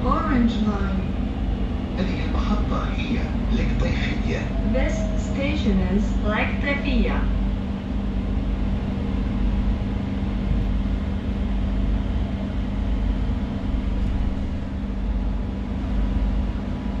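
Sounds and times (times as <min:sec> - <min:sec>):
train electrical hum and rumble: 0:00.0 - 0:17.0.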